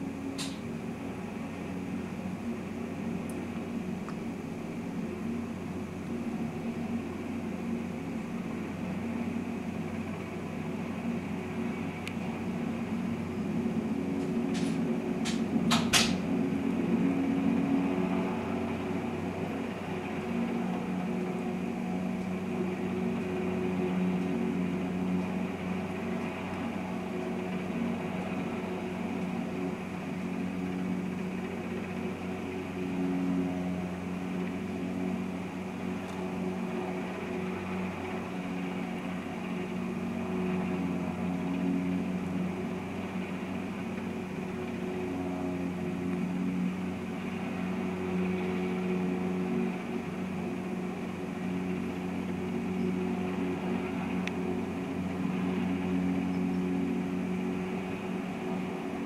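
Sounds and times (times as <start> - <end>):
helicopter rotor drone: 0.0 - 59.0.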